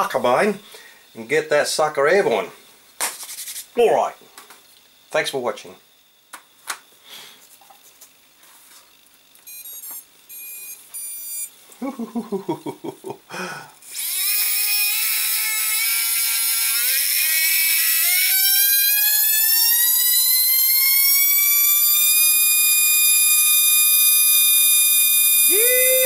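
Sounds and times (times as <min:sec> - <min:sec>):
electric ducted fan whine: 0:00.0 - 0:26.0.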